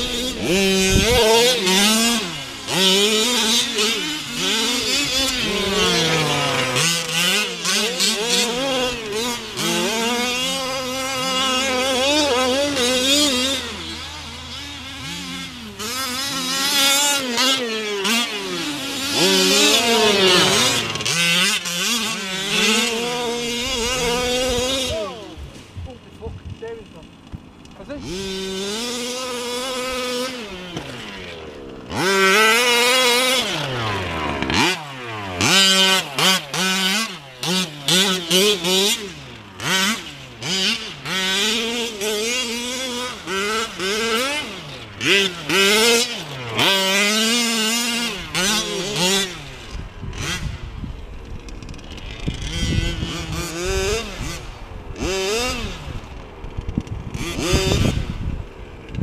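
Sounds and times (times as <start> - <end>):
rc truck engine revving: 0.0 - 59.0.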